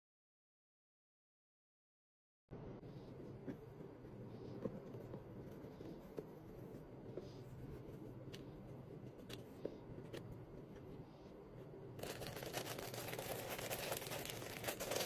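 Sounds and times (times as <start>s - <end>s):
steady low hum: 2.5s - 15.0s.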